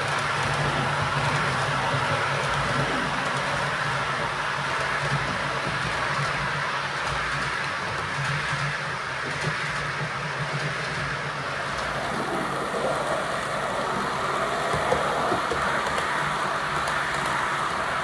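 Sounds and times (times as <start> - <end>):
model train wheels rolling on rails: 0.0 - 18.0.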